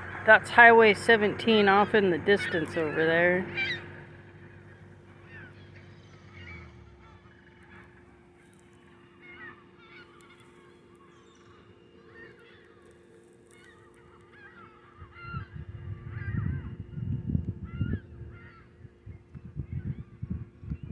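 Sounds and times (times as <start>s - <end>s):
seagulls calling: 0.0s - 20.9s.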